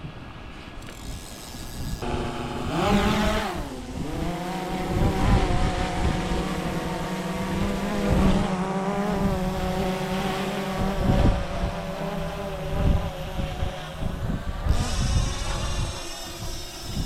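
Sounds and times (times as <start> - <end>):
wind buffeting microphone: 0.0 - 17.0
motor humming: 0.7 - 17.0.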